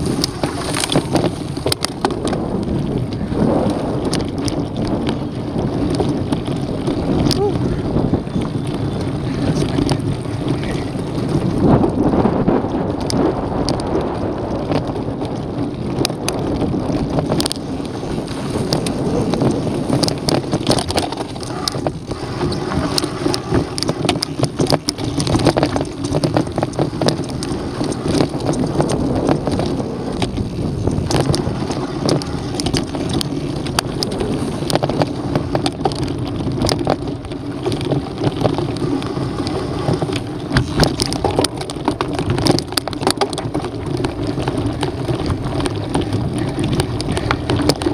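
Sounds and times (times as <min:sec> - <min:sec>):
bike clicks and rattles: 0:00.0 - 0:47.9
tyres crunching on gravel: 0:00.0 - 0:47.9
wind buffeting microphone: 0:00.0 - 0:47.9.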